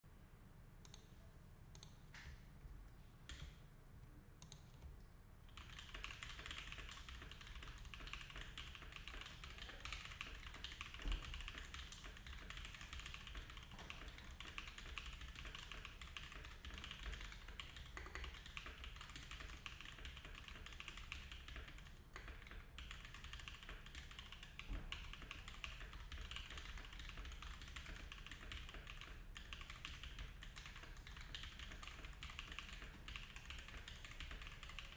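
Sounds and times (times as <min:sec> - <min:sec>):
typing on mechanical keyboard: 0:05.5 - 0:34.9.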